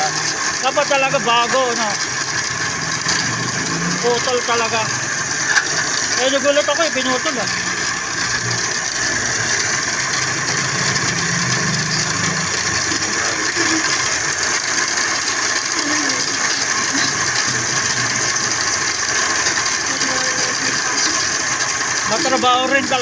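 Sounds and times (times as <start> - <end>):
metalworking machine rattling: 0.0 - 23.0.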